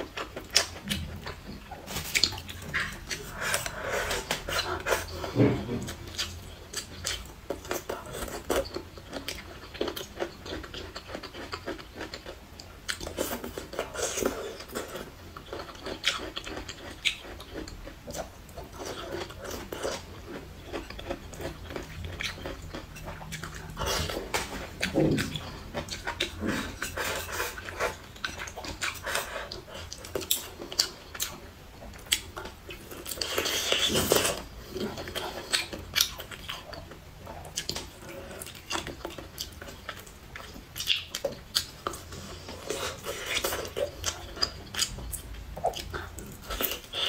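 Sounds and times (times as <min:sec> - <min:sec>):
chewing and mouth smacking: 0:00.0 - 0:47.0.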